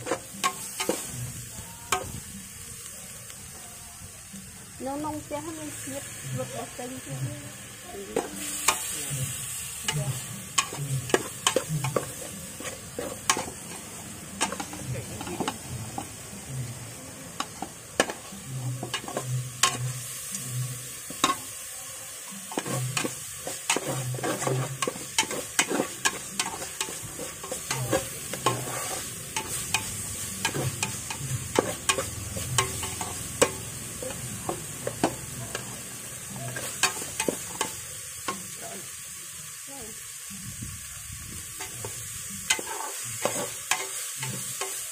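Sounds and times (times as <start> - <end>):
paste sizzling in oil: 0.0 - 44.9.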